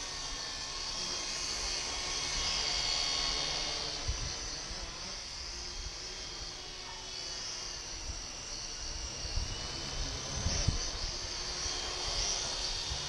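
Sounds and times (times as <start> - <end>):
toy helicopter rotor whine: 0.0 - 13.0.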